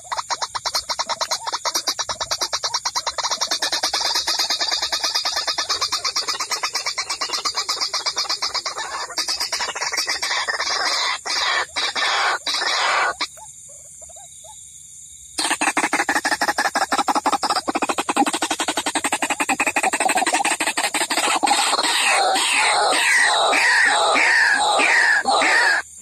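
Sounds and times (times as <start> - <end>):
waterhen calls: 0.0 - 13.5, 15.4 - 26.0.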